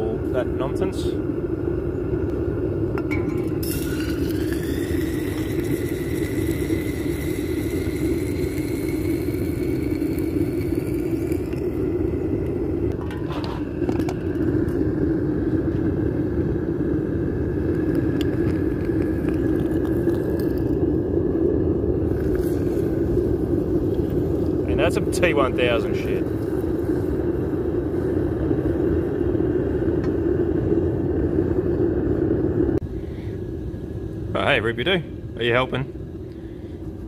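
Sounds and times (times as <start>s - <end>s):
gas burner flame rushing: 0.0s - 34.6s.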